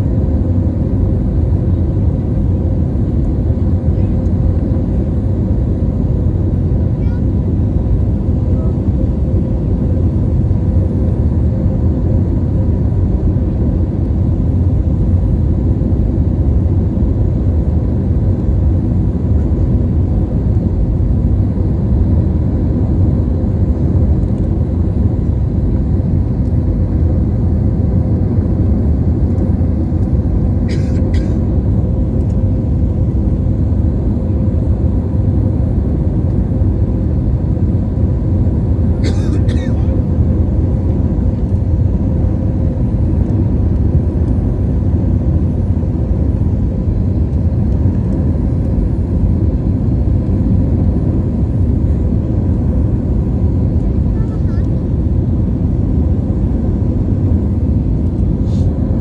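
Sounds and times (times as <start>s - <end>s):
airliner cabin rumble: 0.0s - 59.0s
faint constant hum: 0.0s - 59.0s.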